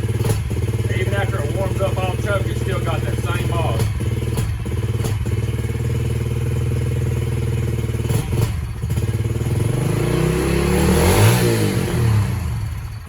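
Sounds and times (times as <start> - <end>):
small engine idling and revving: 0.0 - 13.0.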